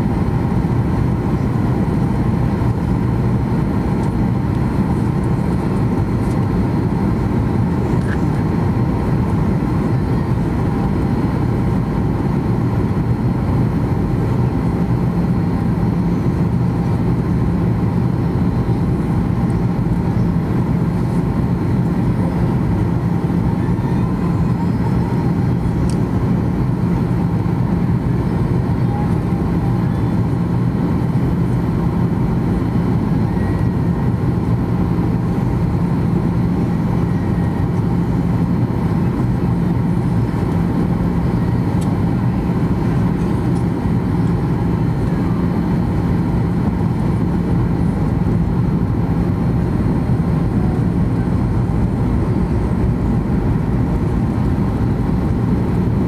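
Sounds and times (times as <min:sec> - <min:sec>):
low jet engine hum: 0:00.0 - 0:56.0.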